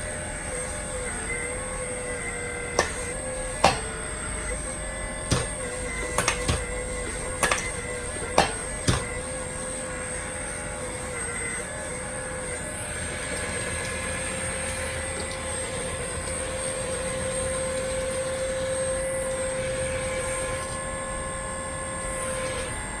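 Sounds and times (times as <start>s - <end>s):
hydraulic pump whining: 0.0s - 23.0s.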